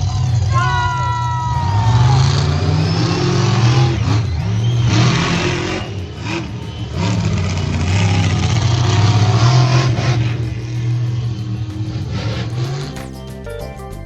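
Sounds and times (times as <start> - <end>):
monster truck engine revving: 0.0 - 13.0
music: 0.0 - 14.0.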